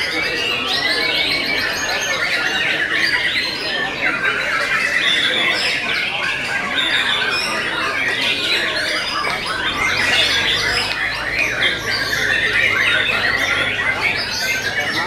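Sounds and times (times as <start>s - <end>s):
birds singing whistled phrases: 0.0s - 15.0s.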